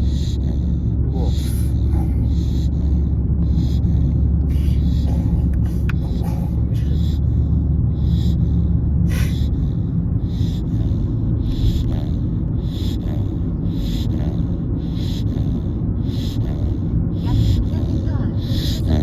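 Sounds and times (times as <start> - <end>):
puppy snoring: 0.0 - 19.0.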